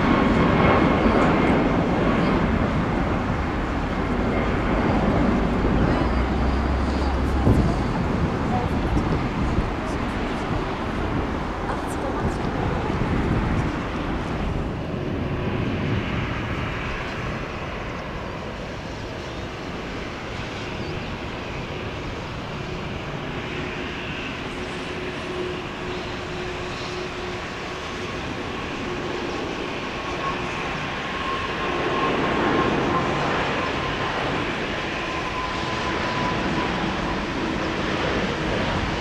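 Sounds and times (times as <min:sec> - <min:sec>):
faint engine whine: 0:00.0 - 0:39.0
jet engines rushing: 0:00.0 - 0:39.0.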